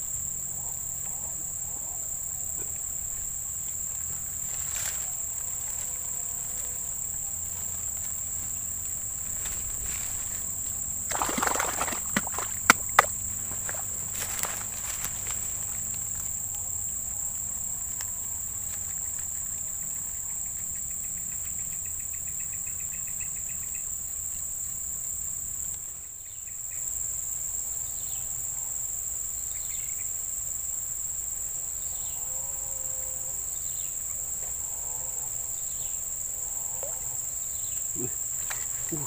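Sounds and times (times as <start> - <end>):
insect chorus drone: 0.0 - 39.0
rapid insect trill: 0.0 - 39.0.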